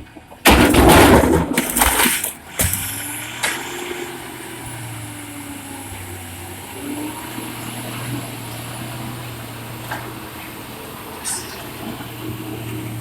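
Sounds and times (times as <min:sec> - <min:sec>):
diesel engine running under load: 0:02.0 - 0:13.0.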